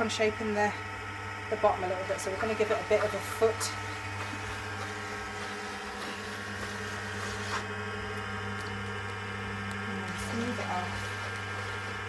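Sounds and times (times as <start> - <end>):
potter's wheel motor humming: 0.0 - 12.0.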